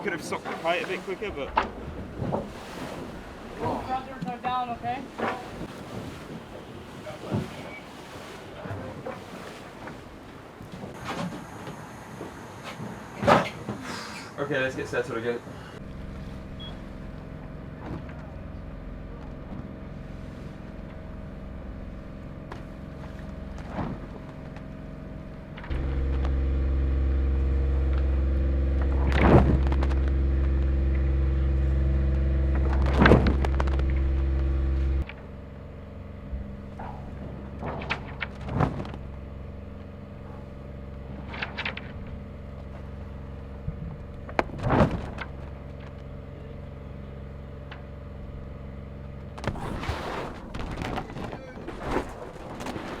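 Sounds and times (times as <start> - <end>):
motor droning: 0.0 - 53.0
steady mechanical hum: 0.0 - 53.0.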